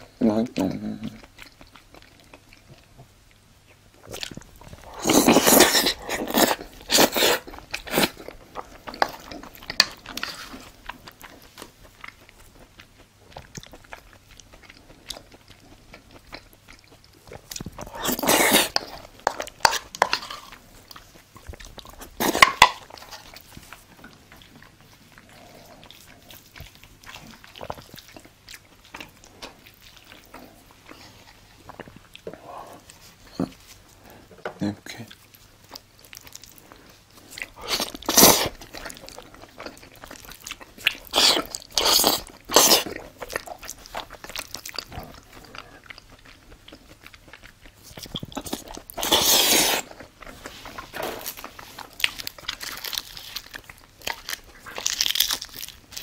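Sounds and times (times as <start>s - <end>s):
person chewing and biting: 3.6s - 33.6s, 35.0s - 56.0s.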